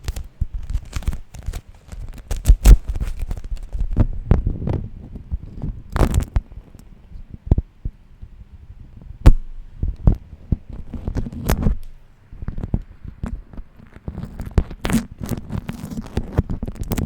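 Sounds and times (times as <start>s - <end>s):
wax wrap sticky crackles: 0.0s - 17.0s.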